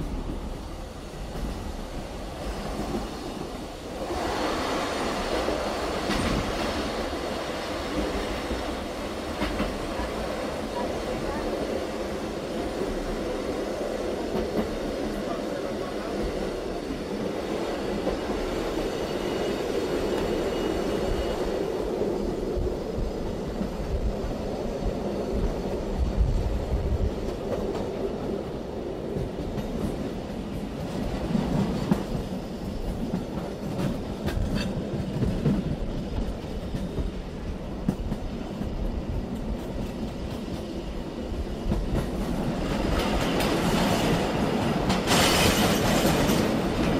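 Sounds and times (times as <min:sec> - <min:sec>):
wheels rumbling on rail: 0:00.0 - 0:46.9.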